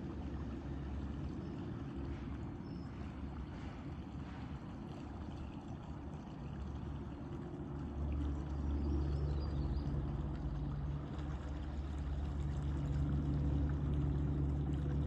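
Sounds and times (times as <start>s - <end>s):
boat motor humming: 0.0s - 15.0s
water lapping: 0.0s - 15.0s.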